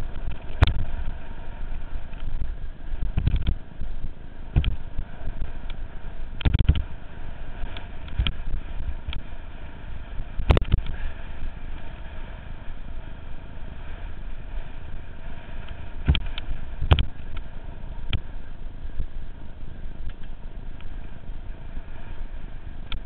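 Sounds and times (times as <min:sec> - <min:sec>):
bike tyres rolling on dirt: 0:00.0 - 0:23.0.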